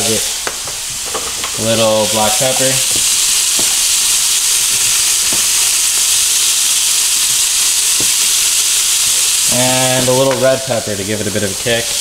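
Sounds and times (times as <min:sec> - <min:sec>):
fish sizzling in frying pan: 0:00.0 - 0:12.0
oil popping: 0:00.4 - 0:10.5.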